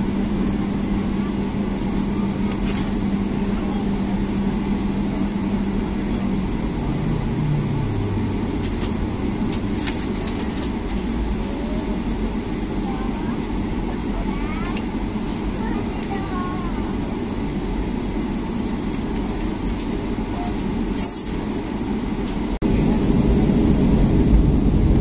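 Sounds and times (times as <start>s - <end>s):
aircraft cabin engine hum: 0.0s - 25.0s.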